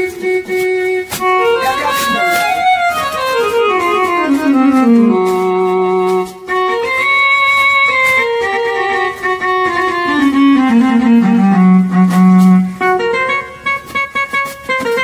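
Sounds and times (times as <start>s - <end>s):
keyboard playing bowed string tone: 0.0s - 15.0s.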